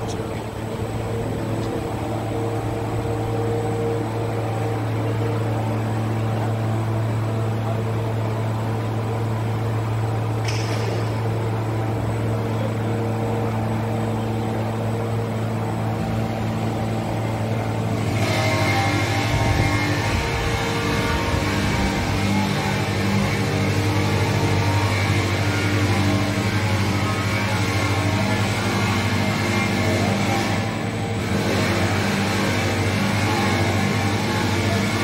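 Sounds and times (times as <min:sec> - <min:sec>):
mixer electric drive humming: 0:00.0 - 0:35.0.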